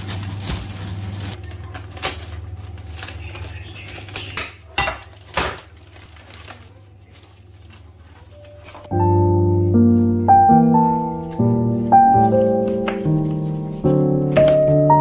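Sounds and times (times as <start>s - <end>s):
plastic rustling: 0.0s - 9.0s, 10.8s - 15.0s.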